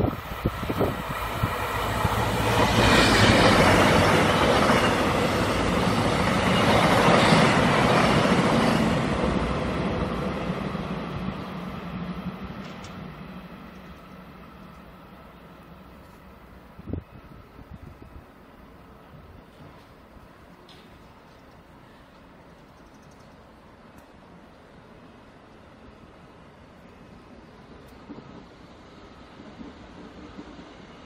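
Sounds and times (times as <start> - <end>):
train wheels on rail: 0.0 - 31.0.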